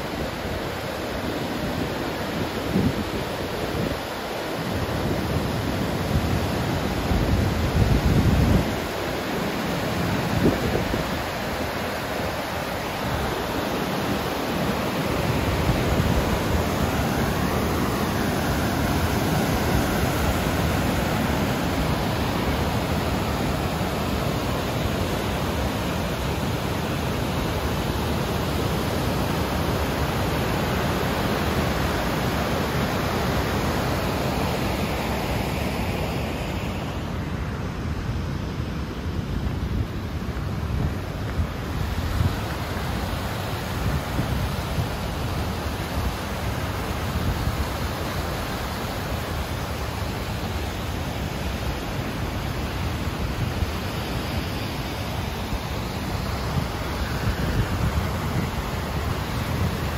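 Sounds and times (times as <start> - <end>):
white water rushing over weir: 0.0 - 59.9.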